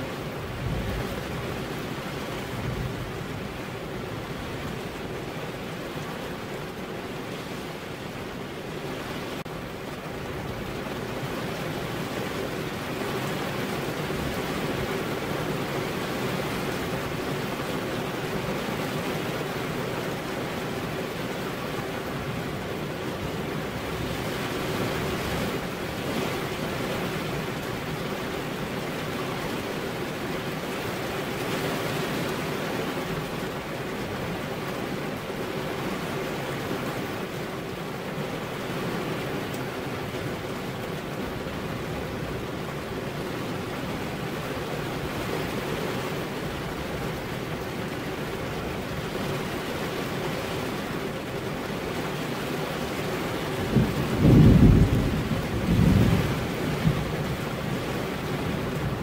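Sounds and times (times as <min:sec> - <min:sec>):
rain falling on a window: 0:00.0 - 0:59.0.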